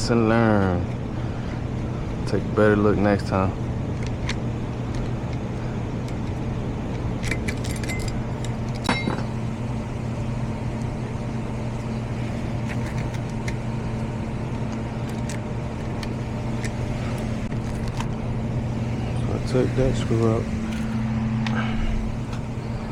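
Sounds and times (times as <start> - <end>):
low mechanical hum: 0.0 - 22.9.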